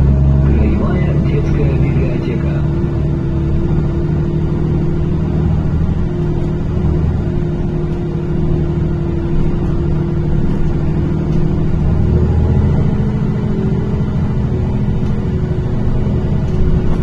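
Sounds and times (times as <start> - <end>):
bus engine droning inside cabin: 0.0 - 17.0.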